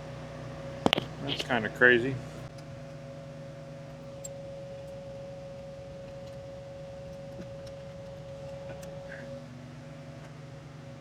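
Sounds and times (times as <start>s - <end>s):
background hum: 0.0s - 11.0s
constant mid-pitched tone: 0.0s - 11.0s.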